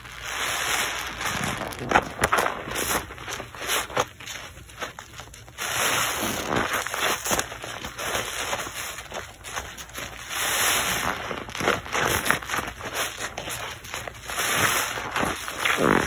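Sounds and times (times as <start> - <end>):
sponge squelching with lather: 0.0 - 16.0.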